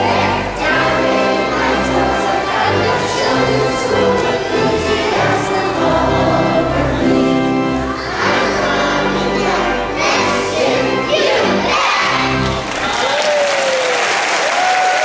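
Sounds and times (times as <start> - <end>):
children singing in chorus: 0.0 - 12.6.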